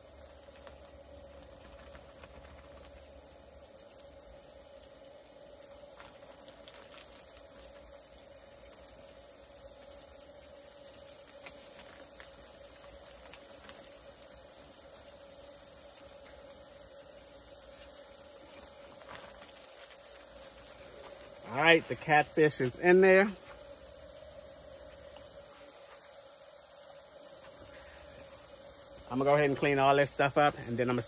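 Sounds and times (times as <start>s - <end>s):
fish sizzling in a pan: 0.0s - 31.0s.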